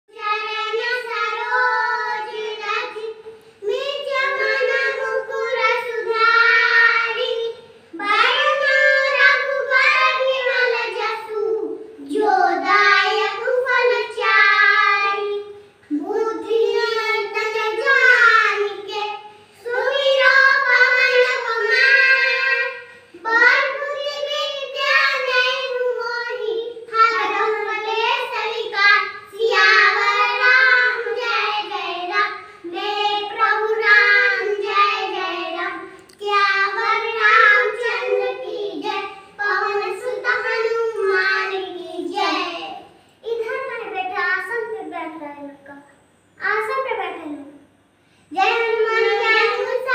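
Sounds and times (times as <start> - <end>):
children singing a prayer: 0.1 - 44.9, 48.2 - 49.9.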